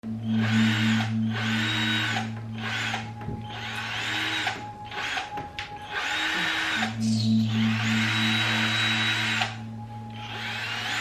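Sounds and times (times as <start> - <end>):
steady low hum: 0.0 - 11.0
power drill running: 0.2 - 9.6, 10.2 - 11.0.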